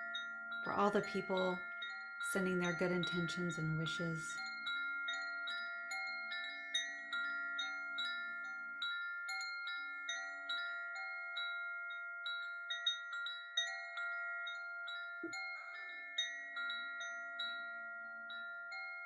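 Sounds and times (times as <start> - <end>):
soft meditation chime music: 0.0 - 19.0.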